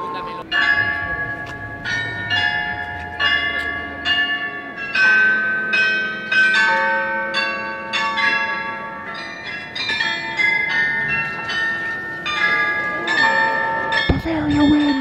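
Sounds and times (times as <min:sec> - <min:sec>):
bells playing slow tune: 0:00.0 - 0:15.0.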